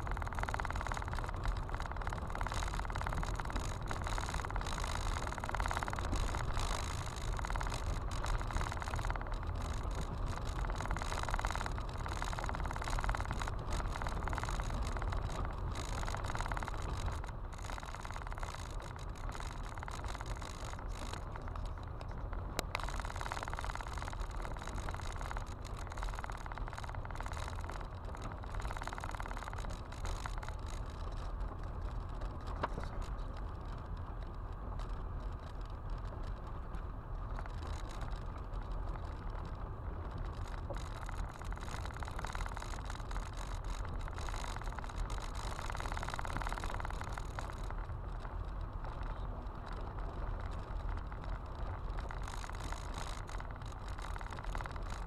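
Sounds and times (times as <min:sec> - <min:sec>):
small ticks: 0:00.0 - 0:55.0.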